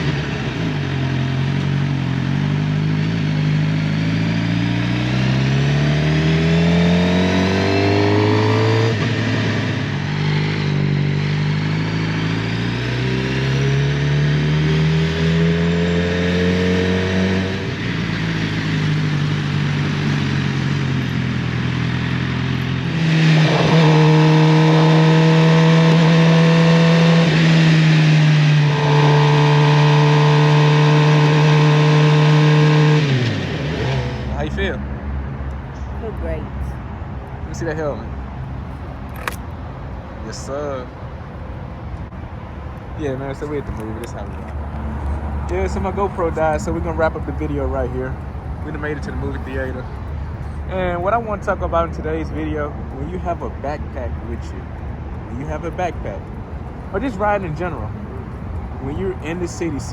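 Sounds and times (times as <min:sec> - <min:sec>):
motorcycle engine accelerating: 0:00.0 - 0:36.5, 0:43.0 - 0:54.6, 0:55.4 - 0:59.9.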